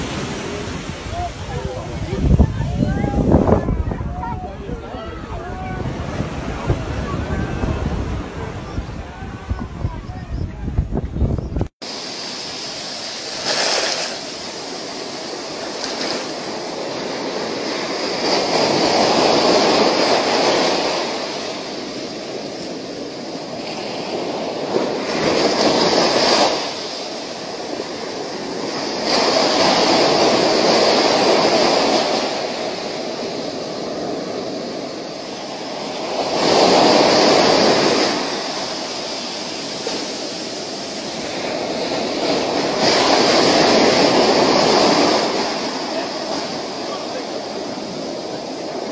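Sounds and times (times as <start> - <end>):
surf breaking on beach: 0.0 - 48.9.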